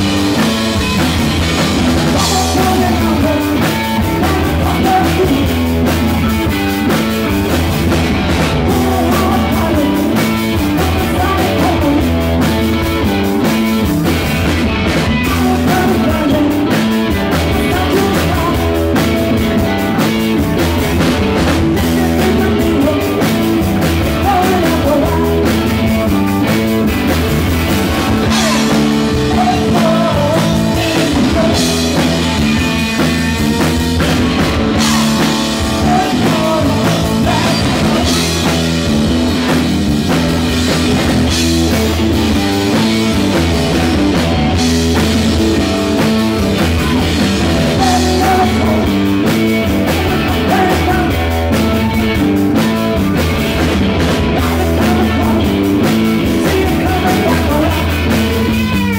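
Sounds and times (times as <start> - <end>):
bass guitar: 0.0 - 58.9
drum kit rock beat: 0.0 - 58.9
electric guitar: 0.0 - 58.9.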